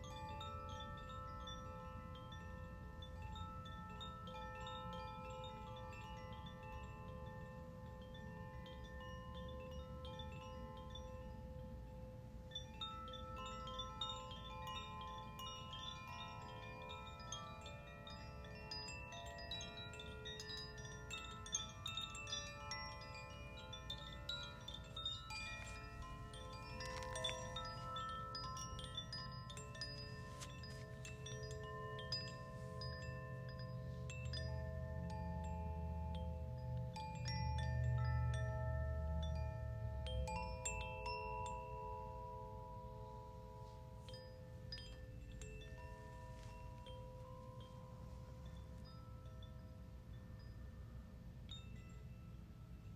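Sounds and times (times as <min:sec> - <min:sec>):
wind chimes ringing: 0:00.0 - 0:52.9.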